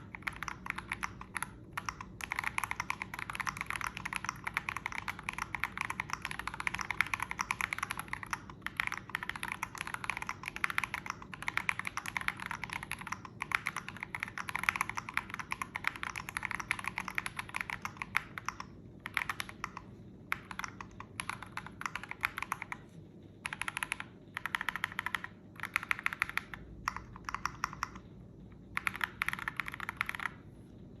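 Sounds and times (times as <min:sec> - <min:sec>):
mechanical keyboard typing: 0:00.0 - 0:30.6.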